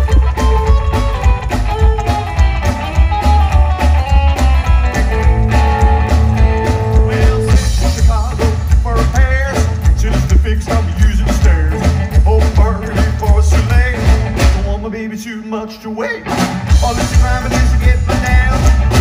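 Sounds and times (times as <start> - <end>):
electric guitar lead: 0.0 - 14.8, 16.2 - 19.0
walking upright bass: 0.0 - 14.8, 16.7 - 19.0
drums: 0.0 - 19.0.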